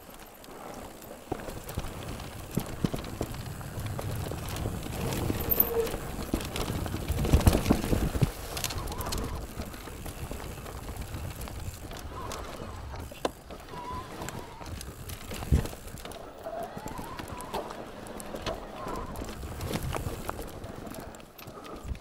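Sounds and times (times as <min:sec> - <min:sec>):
bike rattling and clattering: 0:00.0 - 0:22.0
tyre and wind rumble: 0:00.0 - 0:22.0.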